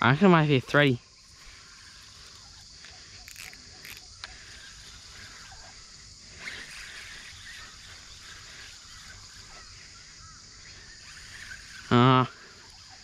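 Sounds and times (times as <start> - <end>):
steady high hiss: 0.0 - 13.0
faint bird chirps: 0.7 - 13.0.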